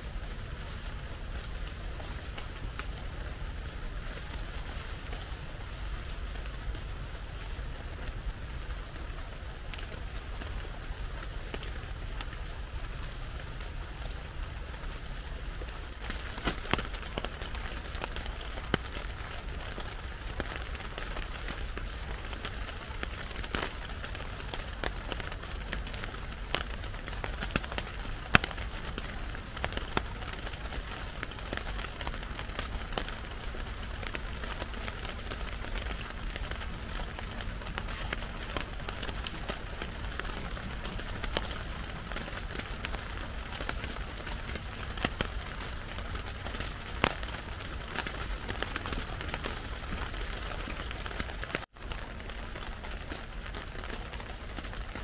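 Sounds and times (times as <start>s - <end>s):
raindrops tapping plastic sheeting: 0.0s - 55.0s
steady rain: 0.0s - 55.0s.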